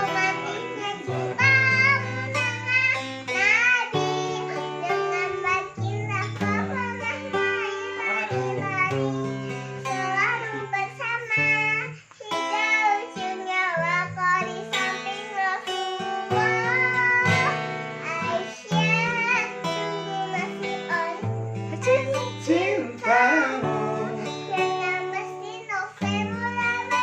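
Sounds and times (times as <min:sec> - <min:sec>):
girl singing: 0:00.0 - 0:27.0
guitar accompaniment: 0:00.0 - 0:27.0.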